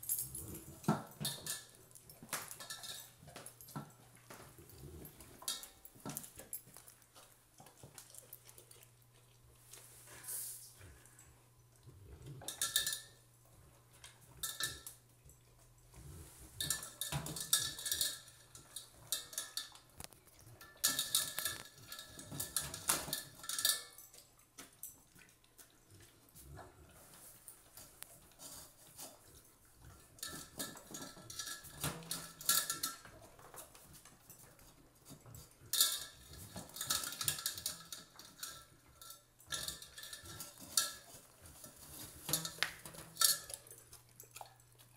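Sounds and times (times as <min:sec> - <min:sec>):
dog eating from metal bowl: 0:00.0 - 0:44.9.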